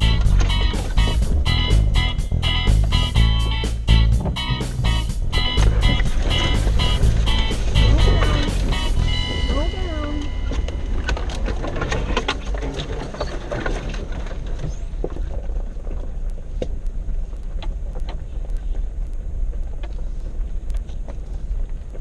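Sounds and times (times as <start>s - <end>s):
clicks and knocks of bouncing vehicle: 0.0s - 9.7s, 10.3s - 22.0s
engine and tyres rumbling: 0.0s - 22.0s.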